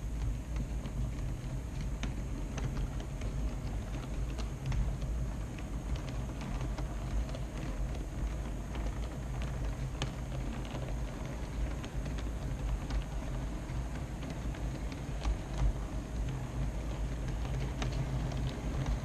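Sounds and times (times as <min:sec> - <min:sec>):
light clicks of train: 0:00.0 - 0:19.0
model train rumble and hum: 0:00.0 - 0:19.0.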